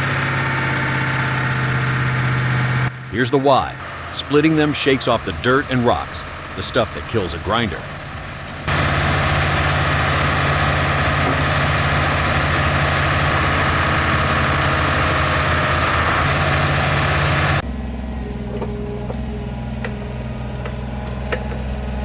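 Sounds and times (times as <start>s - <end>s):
heavy machinery engine drone: 0.0s - 22.0s.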